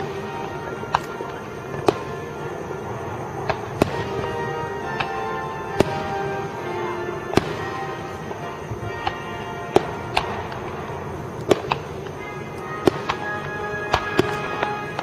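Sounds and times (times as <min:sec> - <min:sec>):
fireworks bangs: 0:00.0 - 0:15.0
music playing: 0:00.0 - 0:15.0.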